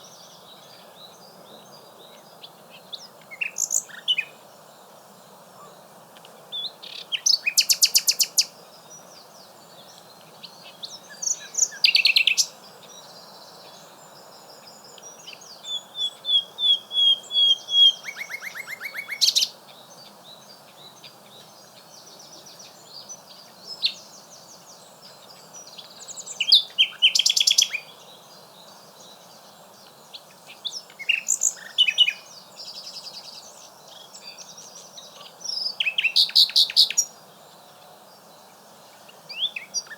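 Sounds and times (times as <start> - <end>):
nightingale singing: 0.0 - 4.5, 6.2 - 39.9.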